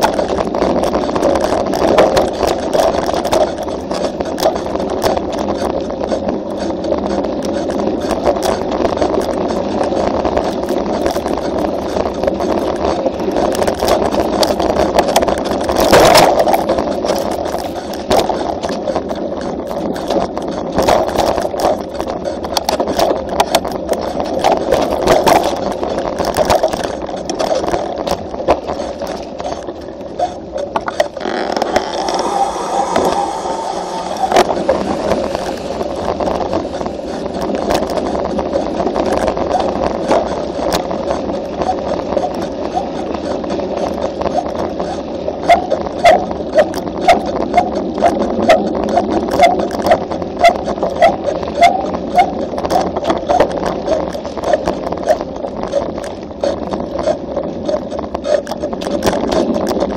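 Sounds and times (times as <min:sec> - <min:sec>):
bike rattling and knocking: 0:00.0 - 0:59.9
tyres rumbling on gravel: 0:00.0 - 0:59.9.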